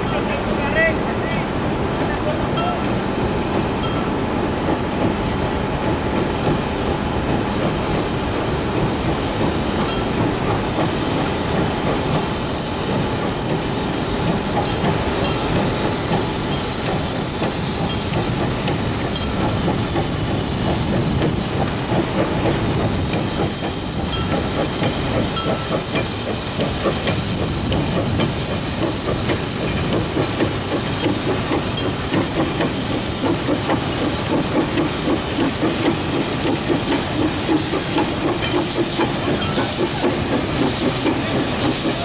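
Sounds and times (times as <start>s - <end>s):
steam locomotive hissing: 0.0s - 42.0s.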